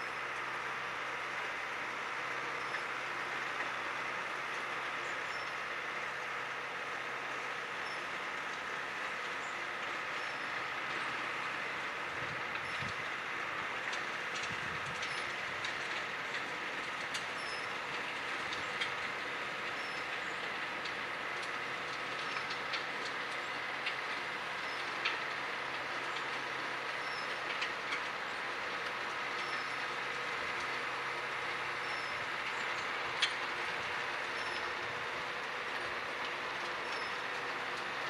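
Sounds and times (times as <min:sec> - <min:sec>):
distant tractor engine drone: 0:00.0 - 0:38.0.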